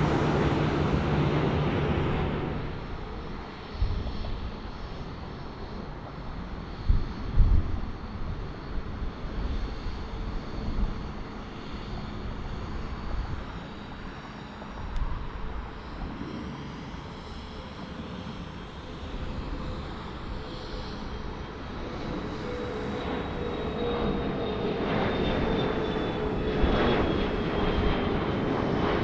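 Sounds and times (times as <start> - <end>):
jet engines rushing rumble: 0.0 - 29.0.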